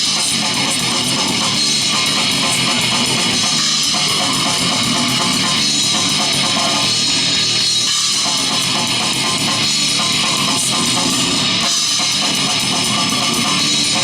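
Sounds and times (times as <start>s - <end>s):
electric guitar: 0.0s - 14.0s
live heavy rock band: 0.0s - 14.0s.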